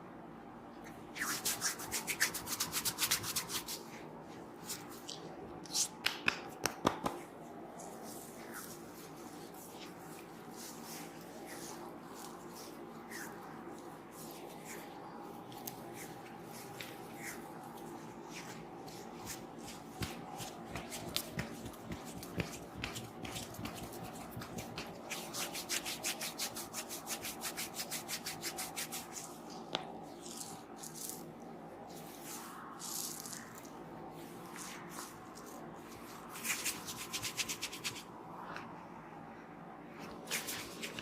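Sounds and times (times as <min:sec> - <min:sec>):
hands rubbing hair and scalp: 0:01.2 - 0:38.2, 0:40.0 - 0:41.0.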